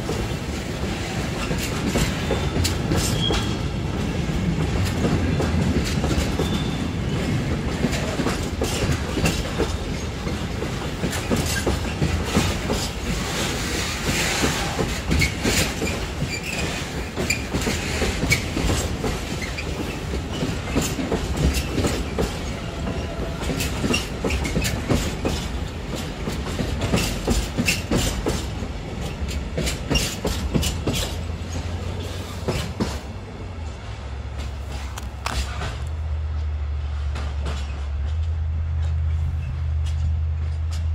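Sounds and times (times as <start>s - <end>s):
freight train rumble: 0.0s - 40.9s
train wheels clacking on track: 0.0s - 40.9s.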